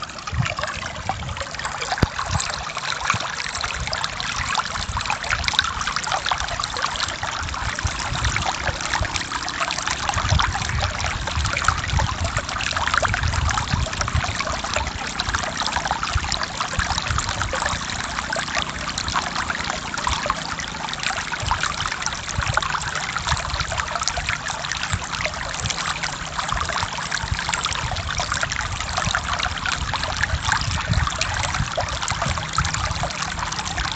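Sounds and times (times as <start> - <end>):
stream flowing over rocks: 0.0 - 33.9.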